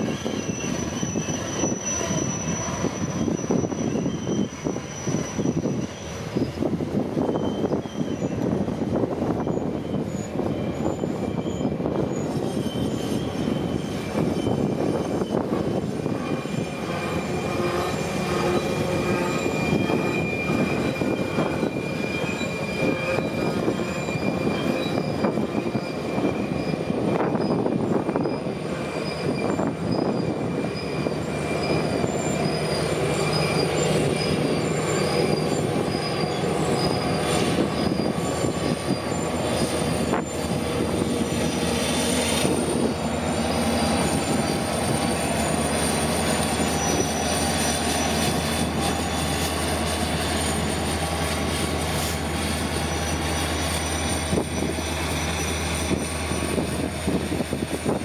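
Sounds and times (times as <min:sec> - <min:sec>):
diesel locomotive engine drone: 0:00.0 - 0:58.0
train wheels squealing on rails: 0:00.0 - 0:58.0.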